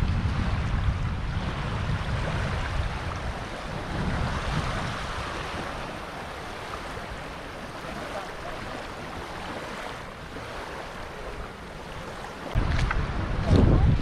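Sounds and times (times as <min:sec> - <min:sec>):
rushing water: 0:00.0 - 0:14.0
wind buffeting microphone: 0:00.0 - 0:14.0.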